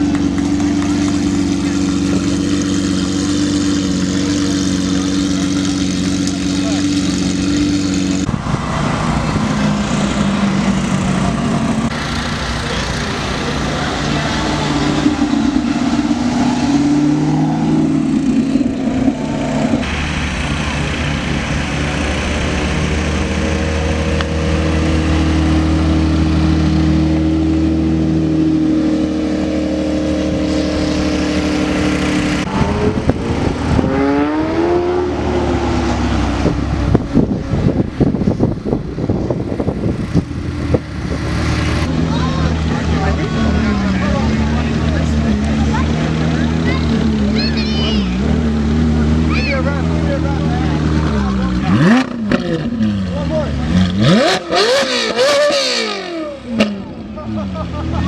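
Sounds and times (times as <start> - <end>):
engine revving: 0.0 - 58.0
sports car engines idling: 0.0 - 58.0.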